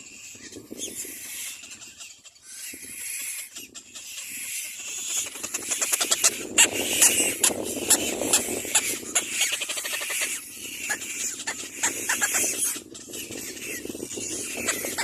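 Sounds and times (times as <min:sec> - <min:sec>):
harsh clicking bird calls: 0:00.0 - 0:15.0.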